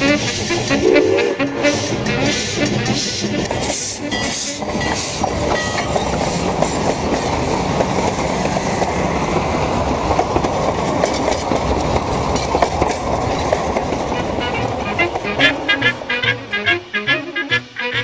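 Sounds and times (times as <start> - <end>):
train rumbling past: 0.0 - 17.2.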